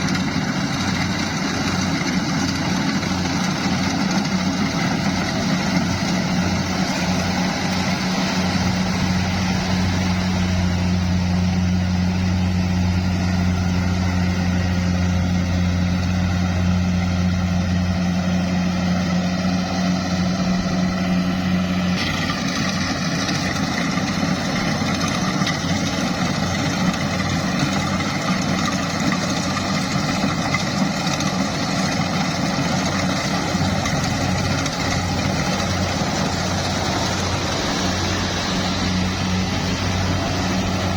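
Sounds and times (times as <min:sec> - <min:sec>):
farm machine engine humming: 0:00.0 - 0:40.9.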